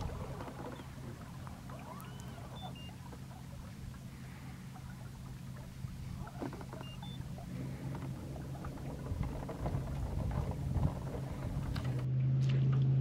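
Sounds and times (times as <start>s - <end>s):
boat motor humming: 0.0s - 12.2s.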